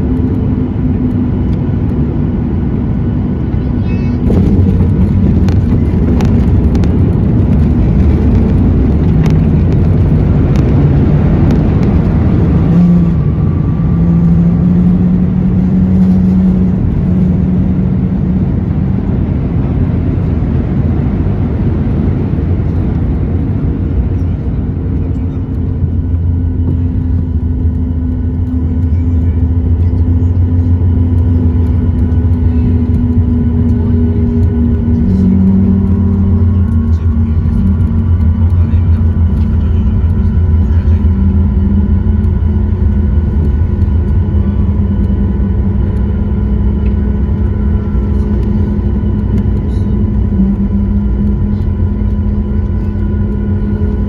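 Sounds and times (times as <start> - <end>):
airplane cabin rumble: 0.0 - 54.0
jet engine hum: 0.0 - 54.0.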